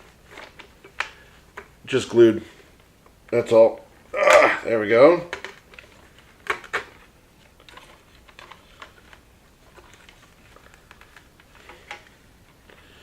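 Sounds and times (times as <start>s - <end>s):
rustling: 0.0s - 4.3s, 5.3s - 13.0s.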